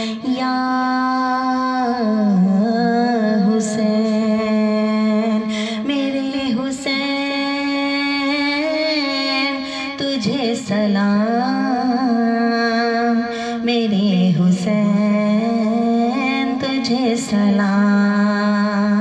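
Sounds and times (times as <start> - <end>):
woman singing devotional chant: 0.0 - 19.0.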